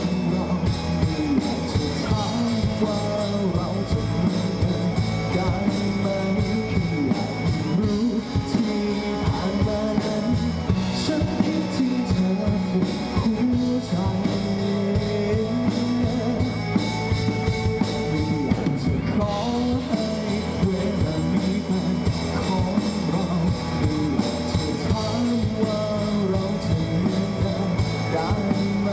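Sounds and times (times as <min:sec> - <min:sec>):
drum kit: 0:00.0 - 0:28.9
electric bass: 0:00.0 - 0:28.9
man singing into microphone: 0:00.0 - 0:28.9.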